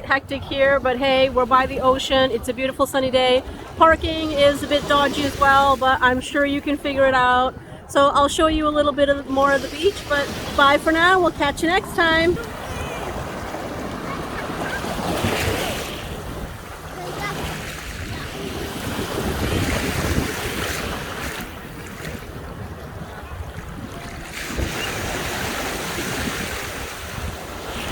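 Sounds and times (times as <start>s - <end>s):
wind buffeting microphone: 0.0s - 27.9s
sea waves breaking on beach: 0.4s - 27.9s.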